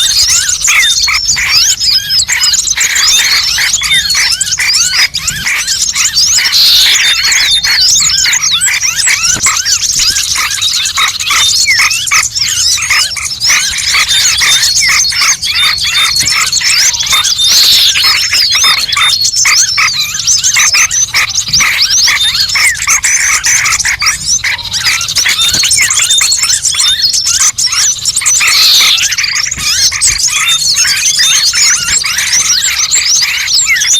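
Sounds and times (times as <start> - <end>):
many small birds chirping: 0.0 - 33.9.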